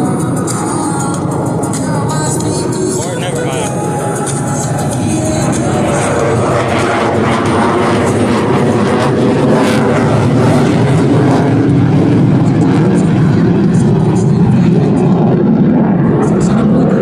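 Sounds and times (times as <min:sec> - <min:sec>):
jet noise rushing: 0:00.0 - 0:17.0.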